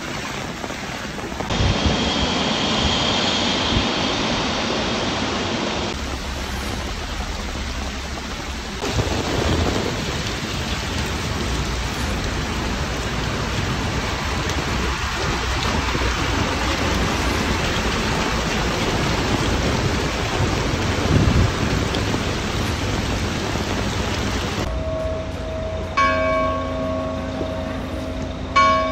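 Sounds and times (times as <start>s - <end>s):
floodwater rushing: 0.0s - 25.9s
heavy rain: 0.0s - 28.9s
low rumble: 1.3s - 28.9s.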